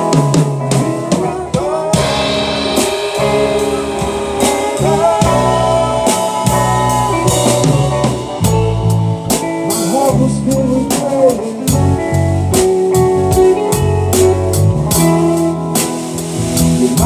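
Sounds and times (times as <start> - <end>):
drum kit steady beat: 0.0 - 17.0
live band music: 0.0 - 17.0.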